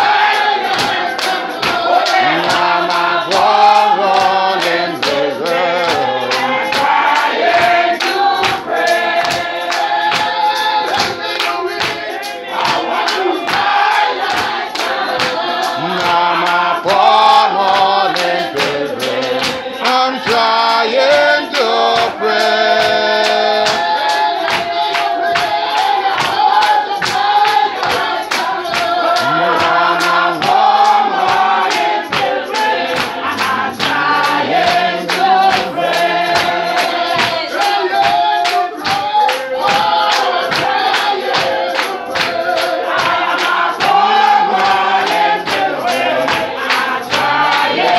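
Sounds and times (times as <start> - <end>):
congregation singing a hymn: 0.0 - 47.9
rhythmic percussive strokes: 0.0 - 47.9.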